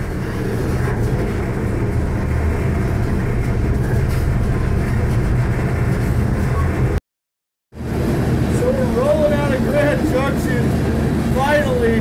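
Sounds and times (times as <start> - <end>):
diesel locomotive engine drone: 0.0 - 7.0, 7.8 - 12.0
train rumbling: 0.0 - 7.0, 7.8 - 12.0.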